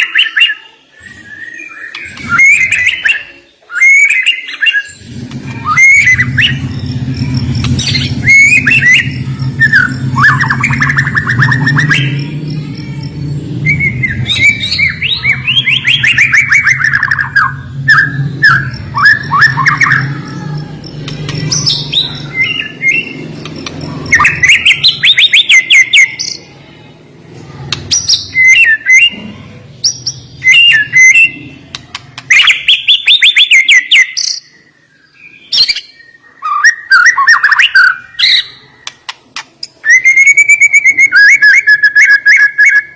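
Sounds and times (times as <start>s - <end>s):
bird singing with sharp whistles: 0.0s - 26.4s, 27.6s - 29.2s, 29.8s - 42.9s.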